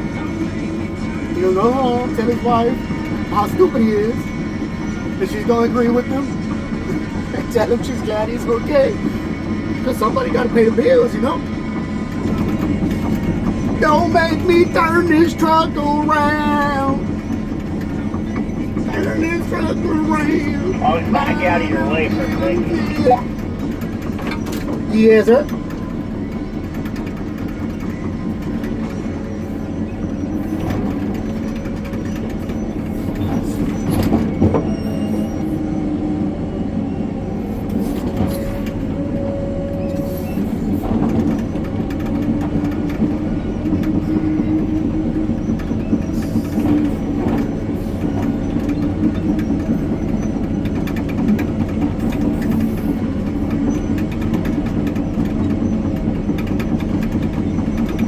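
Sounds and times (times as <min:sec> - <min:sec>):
excavator diesel engine running: 0:00.0 - 0:58.0
mechanical knocks and clanks: 0:02.1 - 0:35.5, 0:37.5 - 0:58.0.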